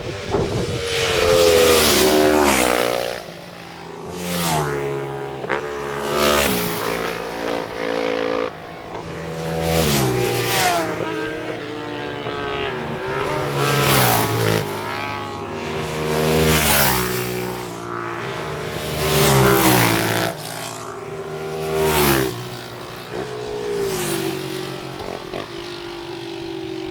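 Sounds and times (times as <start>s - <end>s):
racing motorcycles passing: 0.0s - 26.9s.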